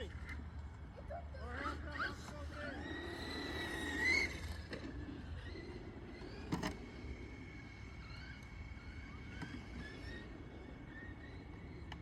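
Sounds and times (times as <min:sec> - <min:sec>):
electric motor whining: 0:01.6 - 0:12.0.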